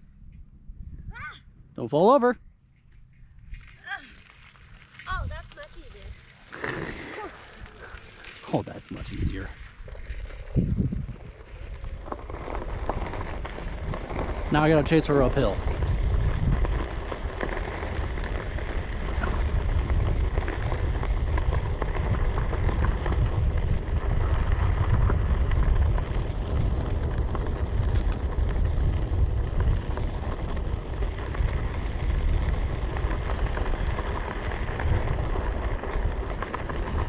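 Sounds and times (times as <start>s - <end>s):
wind buffeting microphone: 0.0s - 1.7s, 2.4s - 37.0s.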